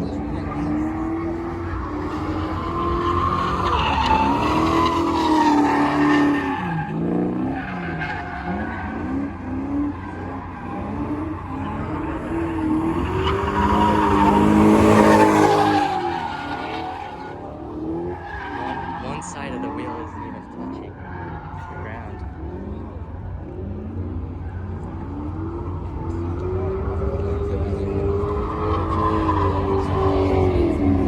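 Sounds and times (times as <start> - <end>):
car engine revving: 0.0 - 31.0
tyres squealing and skidding: 0.0 - 31.0.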